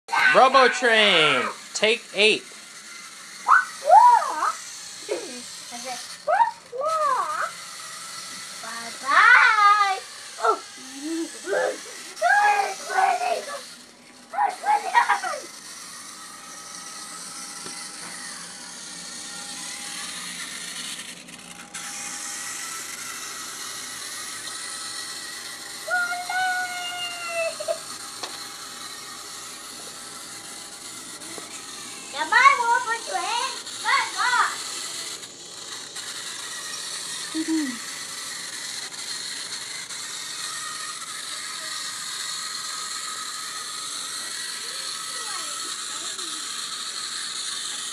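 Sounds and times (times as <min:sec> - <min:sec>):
toy train motor whirring: 0:00.1 - 0:47.9.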